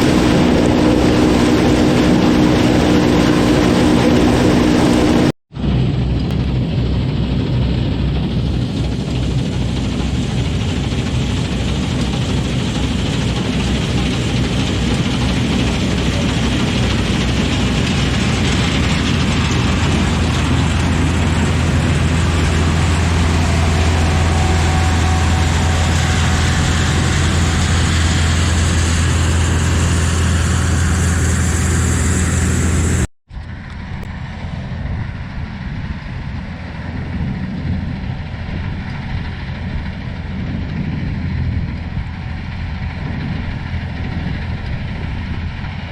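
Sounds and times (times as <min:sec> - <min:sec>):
combine harvester engine hum: 0:00.0 - 0:45.9.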